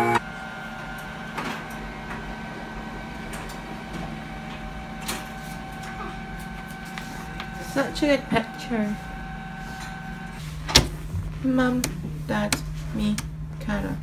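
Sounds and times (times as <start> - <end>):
mechanical hum with whine: 0.0 - 14.0.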